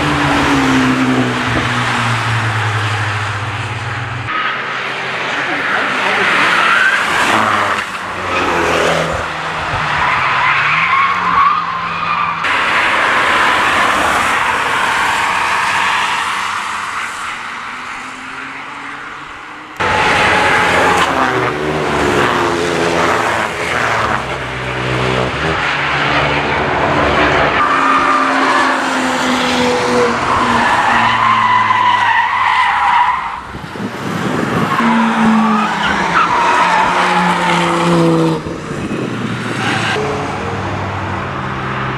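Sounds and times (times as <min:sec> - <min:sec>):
tyres squealing and skidding: 0:00.0 - 0:40.4
car engines revving: 0:00.0 - 0:41.9.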